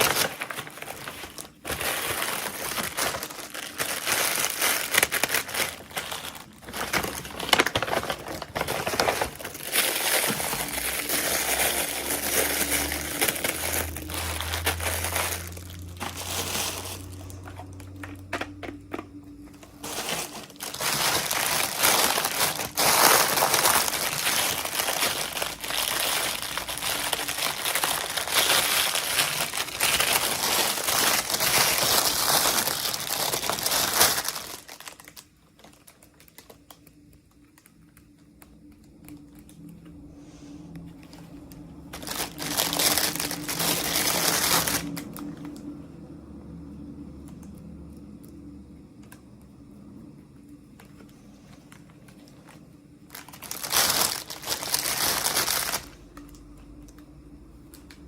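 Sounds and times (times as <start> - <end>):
plastic packaging crinkling: 0.0 - 45.7, 50.8 - 57.0.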